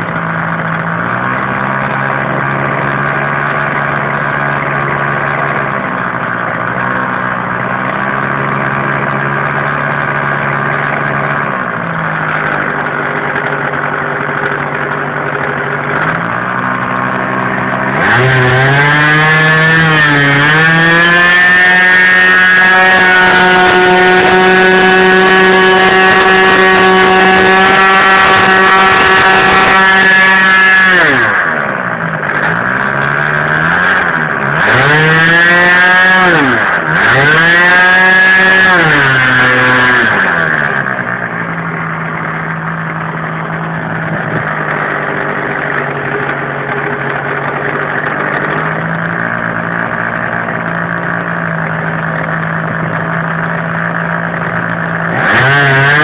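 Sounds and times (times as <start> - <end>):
model engine running: 0.0 - 56.0.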